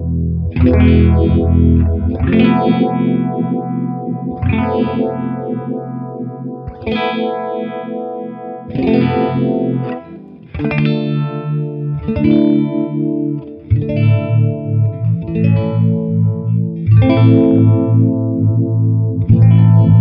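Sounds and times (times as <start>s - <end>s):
electric guitar chords with phaser: 0.0s - 20.0s.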